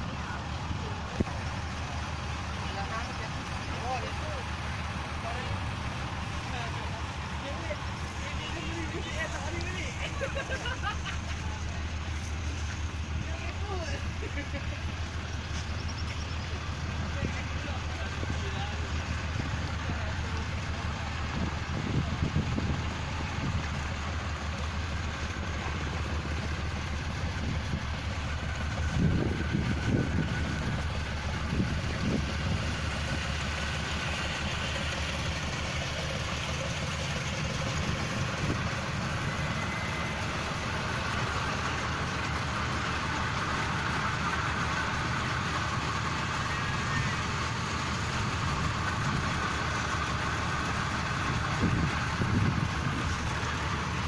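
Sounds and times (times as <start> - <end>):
diesel engine running: 0.0 - 54.0
engine knocks: 0.0 - 54.0.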